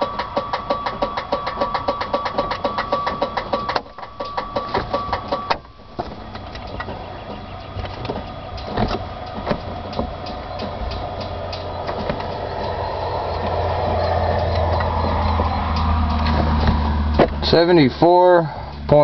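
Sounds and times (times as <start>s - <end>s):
aircraft engine pulsing: 0.0s - 19.0s.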